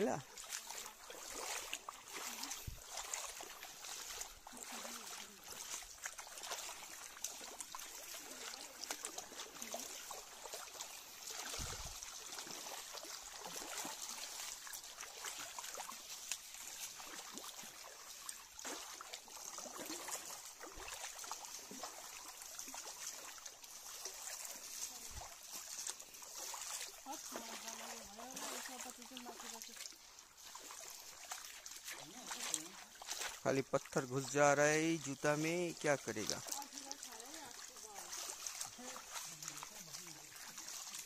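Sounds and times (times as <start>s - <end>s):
water trickling over stones: 0.0s - 41.0s.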